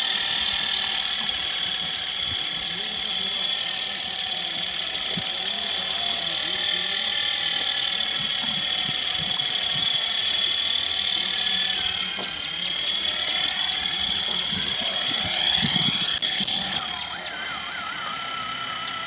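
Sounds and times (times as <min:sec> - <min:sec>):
small electric motor whine: 0:00.0 - 0:19.0.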